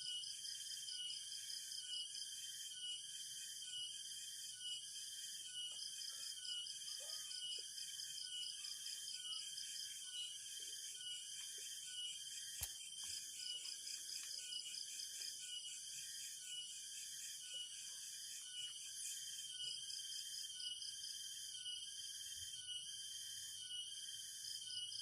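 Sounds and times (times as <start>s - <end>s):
insects trilling: 0.1s - 25.0s.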